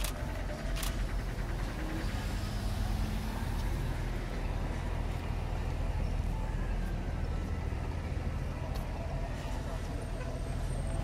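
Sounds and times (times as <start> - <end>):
bus engine rumbling: 0.0 - 11.0
passing car traffic: 0.0 - 11.0.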